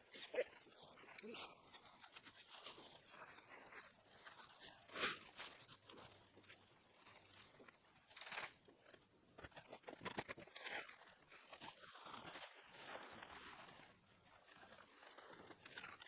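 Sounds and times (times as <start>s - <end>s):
crunching and rustling: 0.0s - 16.0s.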